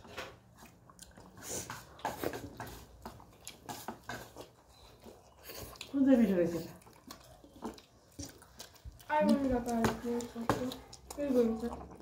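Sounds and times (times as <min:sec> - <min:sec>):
chewing and lip smacks: 0:00.1 - 0:12.0.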